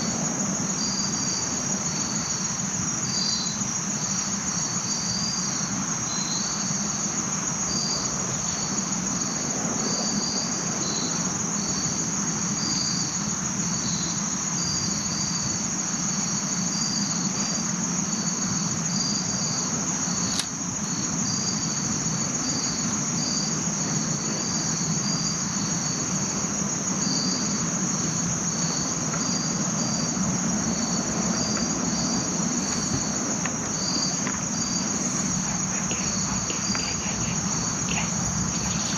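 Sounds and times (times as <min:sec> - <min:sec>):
insect chirps: 0:00.0 - 0:38.9
insects trilling: 0:00.0 - 0:38.9.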